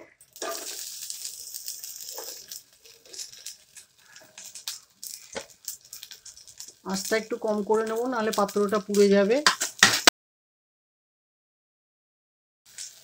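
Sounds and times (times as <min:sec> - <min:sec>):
onions sizzling in hot oil: 0:00.0 - 0:10.1, 0:12.7 - 0:13.0.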